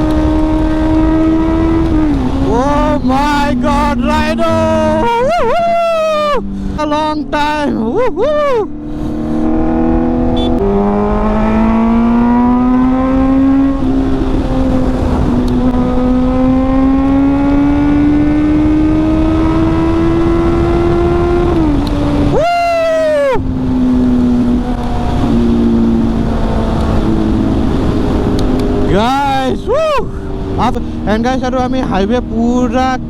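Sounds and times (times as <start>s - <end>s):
motorcycle engine accelerating: 0.0s - 33.0s
steady wind noise: 0.0s - 33.0s.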